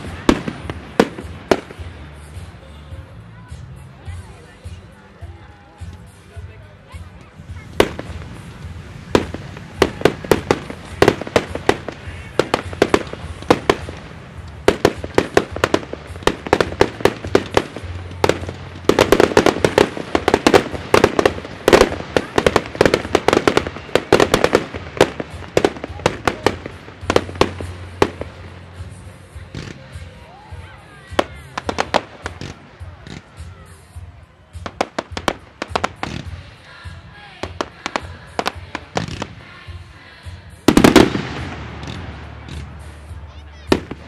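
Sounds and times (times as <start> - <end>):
fireworks bangs and cracks: 0.0 - 3.7, 7.4 - 30.2, 31.1 - 36.5, 37.4 - 39.6, 40.6 - 44.0.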